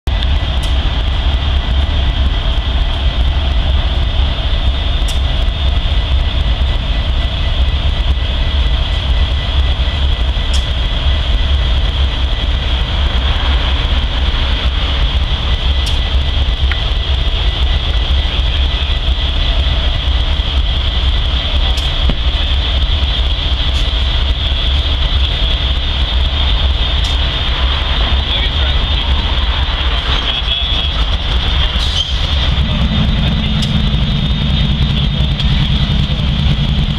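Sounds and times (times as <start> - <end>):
diesel locomotive idling: 0.0 - 36.9
high-pitched drone: 0.1 - 36.9.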